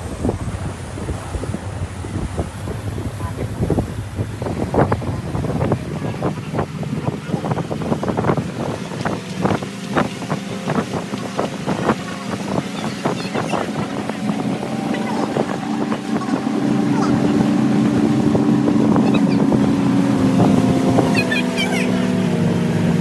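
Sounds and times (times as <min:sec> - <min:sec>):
boat engine humming: 0:00.0 - 0:23.0
water splashing against hull: 0:00.0 - 0:23.0.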